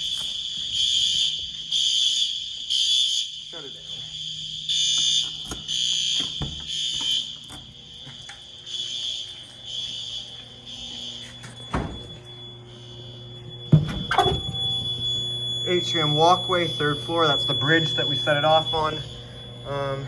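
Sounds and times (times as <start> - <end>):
fire alarm horns pulsing: 0.0 - 20.0.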